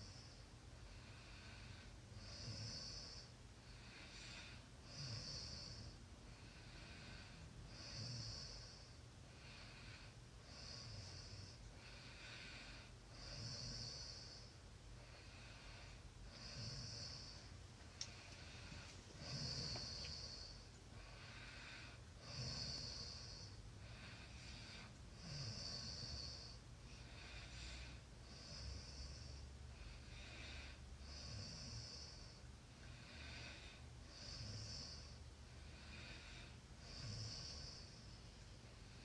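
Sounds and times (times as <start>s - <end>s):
person snoring: 1.0s - 38.2s.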